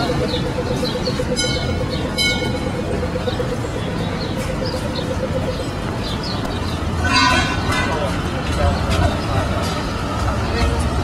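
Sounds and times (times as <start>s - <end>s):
crowd noise: 0.0s - 11.0s
traffic: 0.0s - 11.0s.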